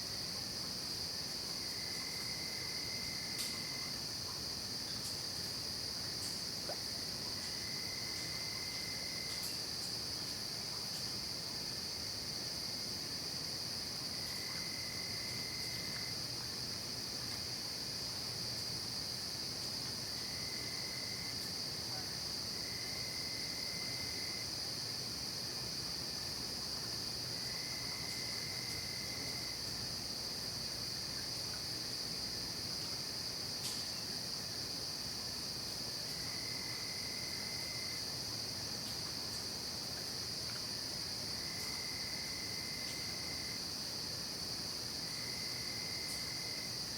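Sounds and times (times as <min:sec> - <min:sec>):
lower-pitched insect trill: 0:00.0 - 0:16.5, 0:17.1 - 0:24.7, 0:25.8 - 0:46.9.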